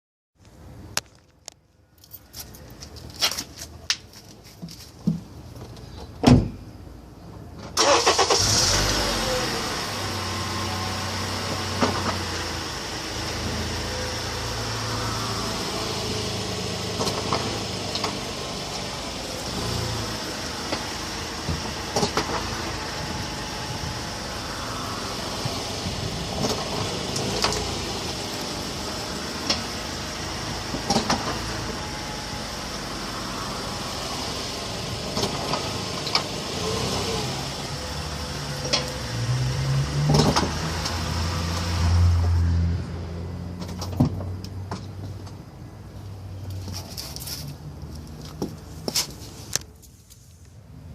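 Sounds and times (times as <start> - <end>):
car engine starting and running: 7.5 - 48.7.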